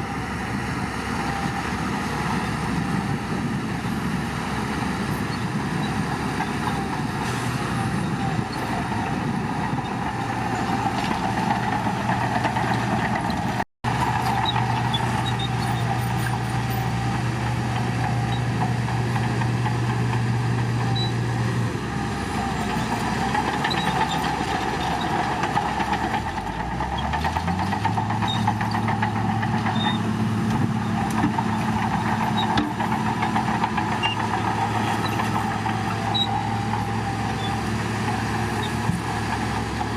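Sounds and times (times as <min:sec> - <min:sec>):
bulldozer diesel engine running: 0:00.0 - 0:39.9
mid-pitched whine and rattle: 0:07.8 - 0:39.9.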